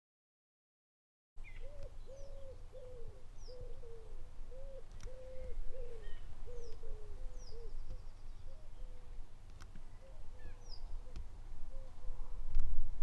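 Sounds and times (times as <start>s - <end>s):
small birds chirping: 1.4s - 11.9s.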